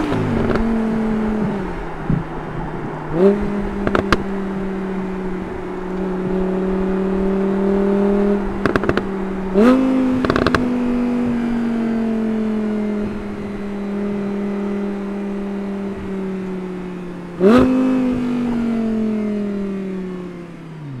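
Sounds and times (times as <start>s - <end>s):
car engine revs falling: 0.0s - 21.0s.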